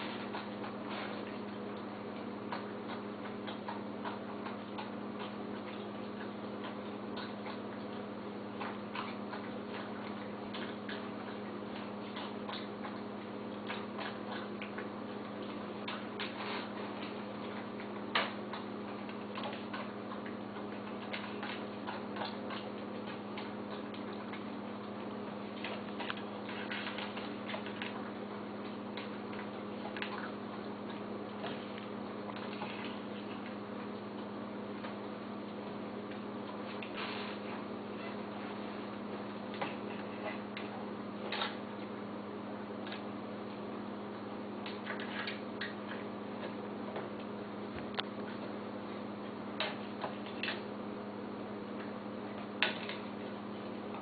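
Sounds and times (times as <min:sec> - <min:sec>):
dog chewing food: 0:00.0 - 0:54.0.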